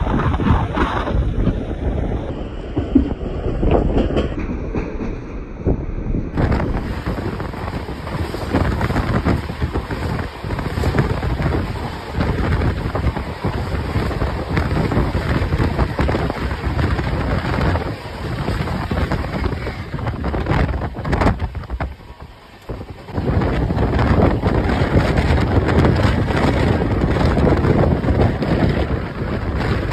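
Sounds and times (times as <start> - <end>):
train rumbling and rattling: 0.0 - 29.9
wind buffeting microphone: 0.0 - 29.9.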